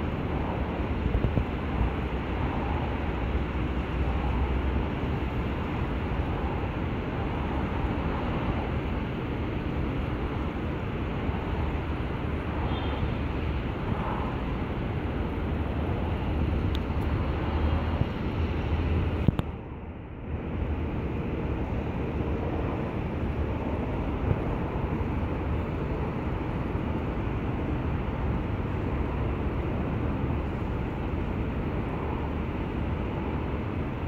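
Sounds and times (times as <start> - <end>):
outdoor rumble and hiss: 0.0 - 34.0.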